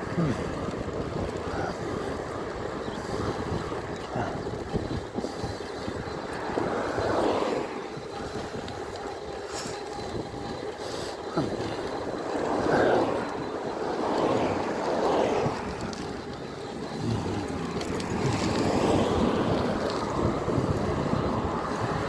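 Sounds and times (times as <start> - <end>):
car passing: 0.0 - 22.0
wind rushing over microphone: 0.0 - 22.0.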